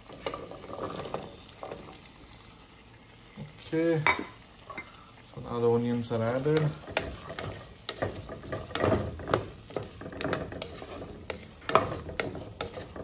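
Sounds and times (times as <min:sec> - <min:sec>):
wooden spatula scraping a pan: 0:00.0 - 0:02.1, 0:04.6 - 0:13.0
food sizzling in hot oil: 0:00.0 - 0:13.0.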